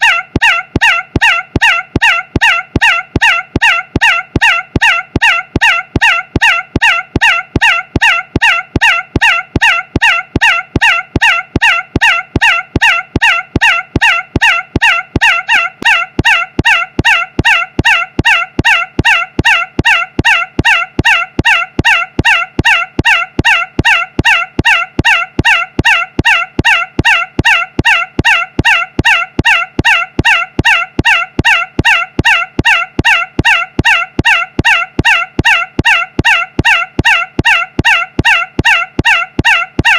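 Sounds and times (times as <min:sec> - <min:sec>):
bending-pitch squawk looped: 0:00.0 - 0:39.9.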